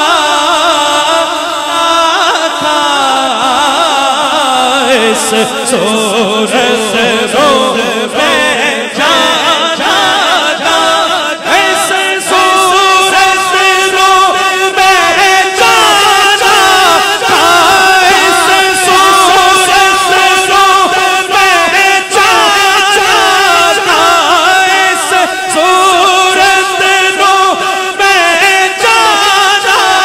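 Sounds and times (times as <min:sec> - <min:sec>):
man singing into microphone: 0:00.0 - 0:30.0.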